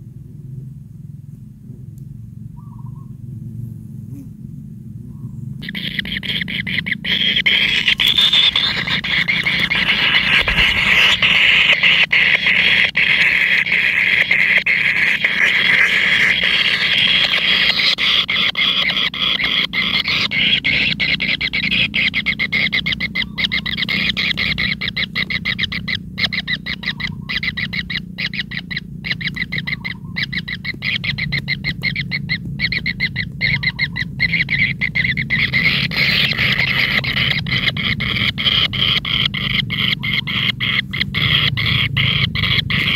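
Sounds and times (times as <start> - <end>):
nestlings begging calls: 5.6 - 42.9.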